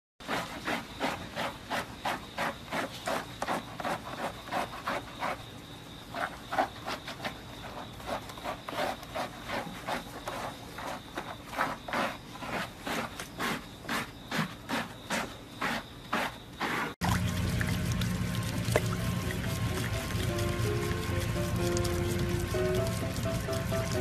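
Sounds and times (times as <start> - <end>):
bath brush scrubbing wet fur: 0.2 - 5.4, 6.2 - 24.0.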